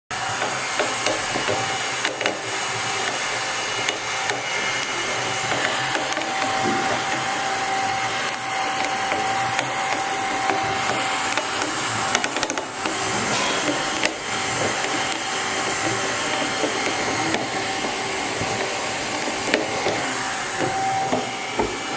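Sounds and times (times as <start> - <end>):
motor grinding and rattling: 0.1 - 21.9
steady whine: 0.2 - 21.9.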